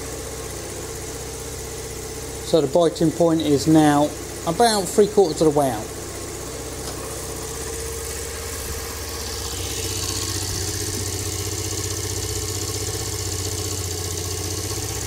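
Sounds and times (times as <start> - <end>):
small motorbike engine idling: 0.0 - 15.0.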